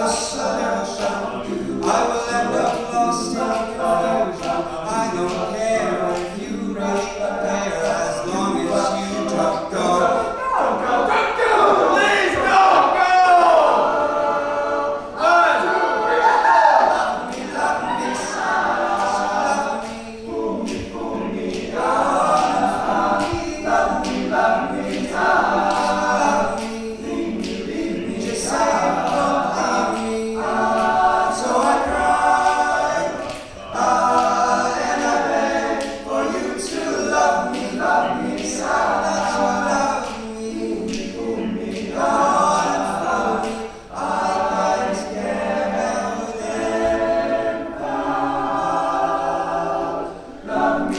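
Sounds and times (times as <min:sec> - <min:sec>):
percussive beat: 0:00.0 - 0:10.4, 0:16.8 - 0:49.6
male a cappella group singing: 0:00.0 - 0:50.9.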